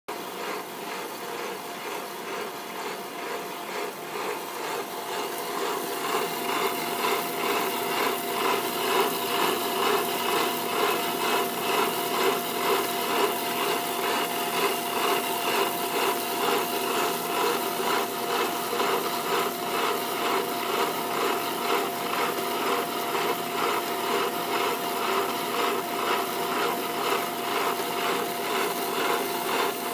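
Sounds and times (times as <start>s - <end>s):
chocolate grinder whining: 0.1s - 29.9s.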